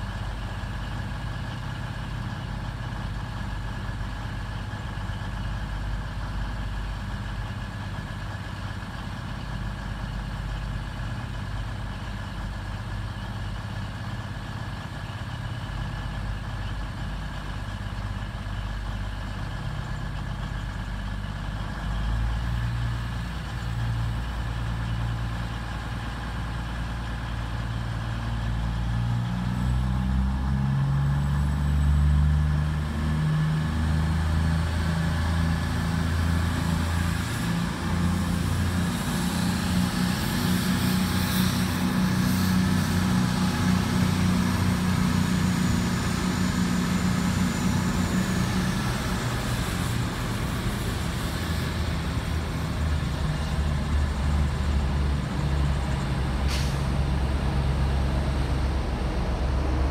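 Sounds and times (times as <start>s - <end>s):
diesel locomotive engine: 0.0s - 59.9s.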